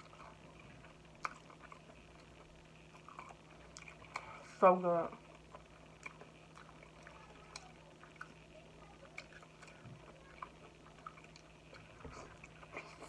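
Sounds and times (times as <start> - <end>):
close-up chewing: 0.0 - 4.6, 5.2 - 13.0
low steady hum: 0.0 - 13.0.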